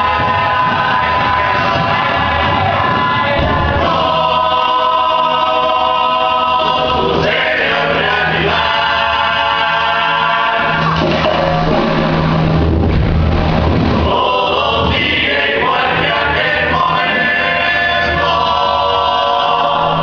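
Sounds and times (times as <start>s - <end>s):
group of voices singing: 0.0s - 12.2s, 14.0s - 20.0s.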